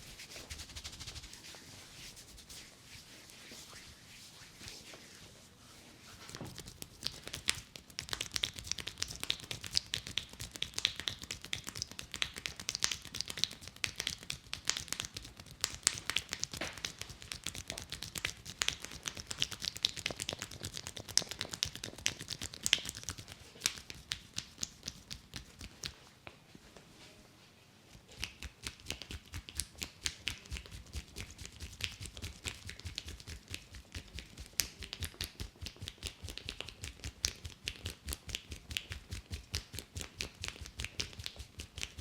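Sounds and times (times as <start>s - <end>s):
hands patting and rubbing scalp: 0.0s - 5.2s, 6.0s - 26.0s, 28.0s - 42.0s.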